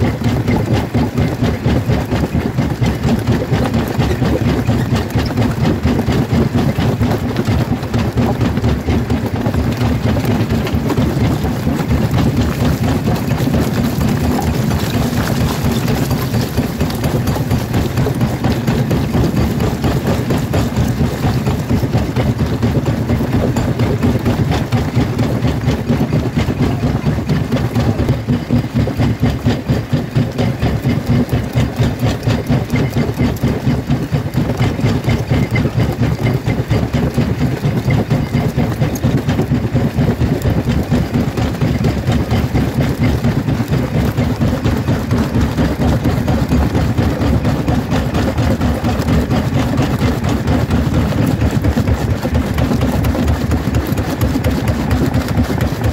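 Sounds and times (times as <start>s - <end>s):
jaw crusher rumbling: 0.0s - 55.9s.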